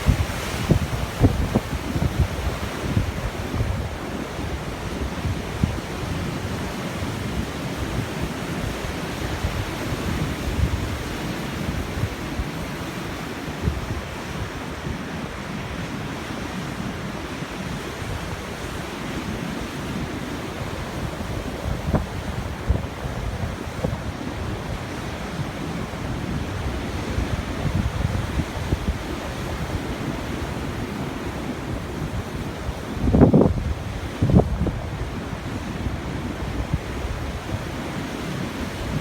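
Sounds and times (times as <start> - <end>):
wind buffeting microphone: 0.0 - 16.2, 17.5 - 39.0
rough sea surf: 0.0 - 39.0.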